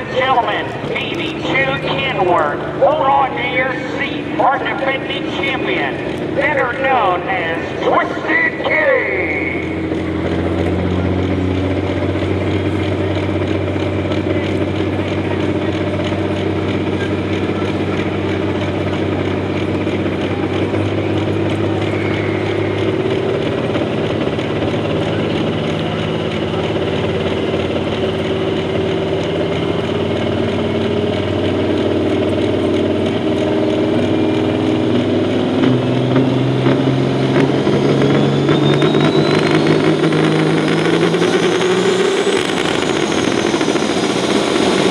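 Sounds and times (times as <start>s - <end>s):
truck diesel engine under load: 0.0s - 44.9s.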